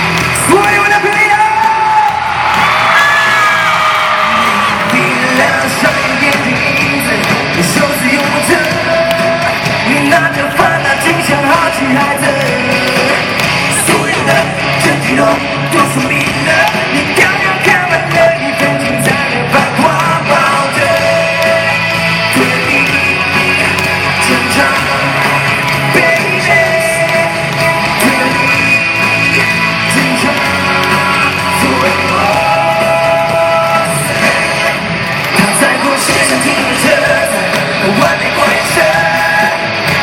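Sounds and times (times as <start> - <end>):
live rock band: 0.0 - 40.0
man singing loudly: 0.4 - 2.3, 2.9 - 40.0.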